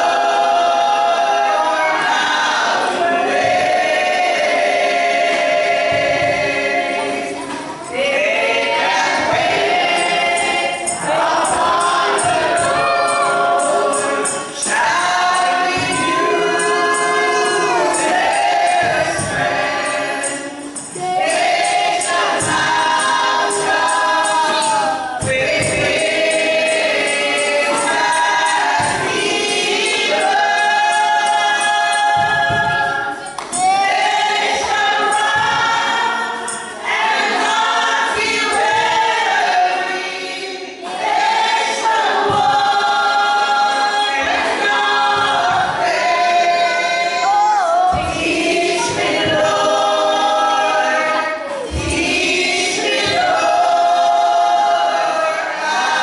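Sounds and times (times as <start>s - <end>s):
tambourine shaken and struck: 0.0s - 51.0s, 51.6s - 56.0s
women singing gospel in harmony: 0.0s - 56.0s.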